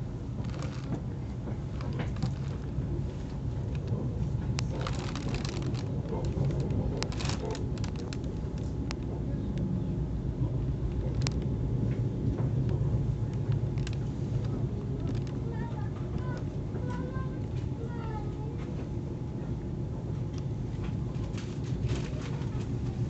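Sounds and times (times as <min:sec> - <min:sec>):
train running rumble: 0:00.0 - 0:23.0.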